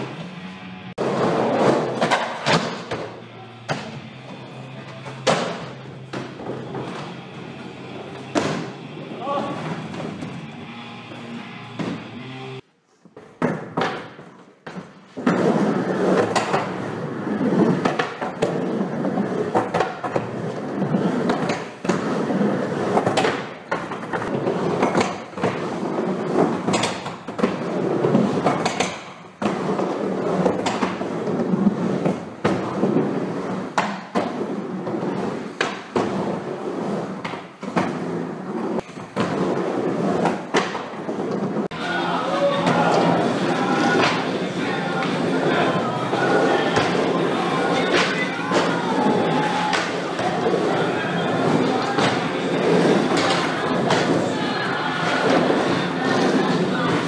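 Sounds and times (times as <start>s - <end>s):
skateboard wheels rolling on concrete: 0.0s - 57.0s.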